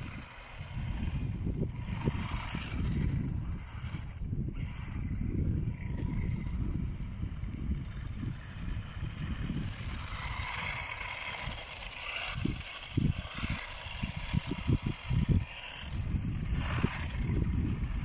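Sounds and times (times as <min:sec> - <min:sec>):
distant rc truck motor hiss: 0:00.0 - 0:18.0
wind buffeting microphone: 0:00.0 - 0:18.0.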